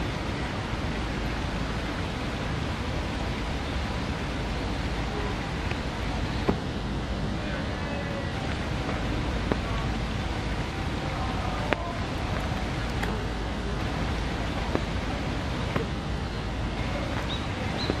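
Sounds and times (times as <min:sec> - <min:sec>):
faint distant voices: 0:00.0 - 0:18.0
rain rumble and hiss: 0:00.0 - 0:18.0.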